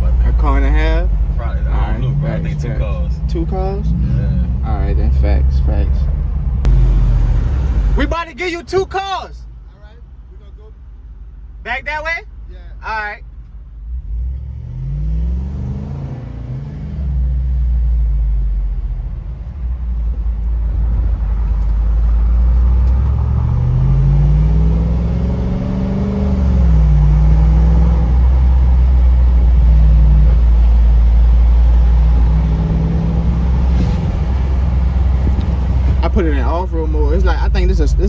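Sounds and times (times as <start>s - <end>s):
car engine deep rumble: 0.0s - 38.0s.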